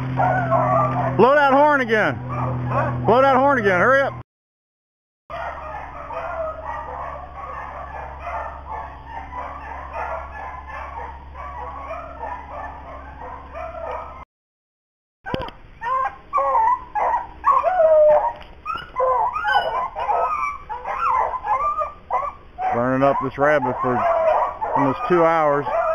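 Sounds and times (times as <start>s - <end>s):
pack of hounds baying: 0.0s - 4.2s, 5.3s - 14.2s, 15.3s - 25.9s.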